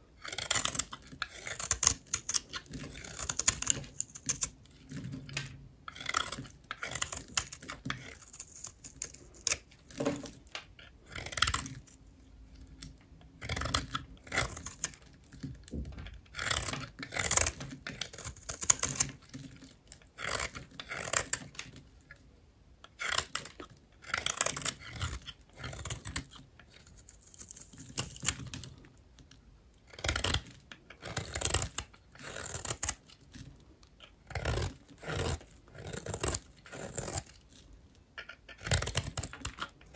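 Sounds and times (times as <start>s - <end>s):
soap bars crunching as cut: 0.2s - 5.3s, 5.9s - 12.0s, 12.6s - 21.8s, 22.9s - 28.8s, 29.8s - 39.9s.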